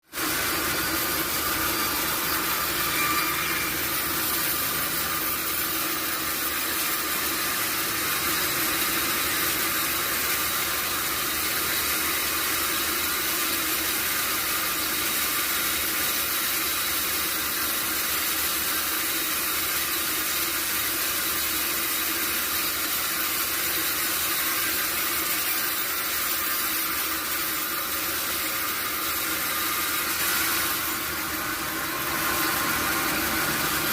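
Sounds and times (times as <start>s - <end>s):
sawmill machinery hissing: 0.0s - 33.9s.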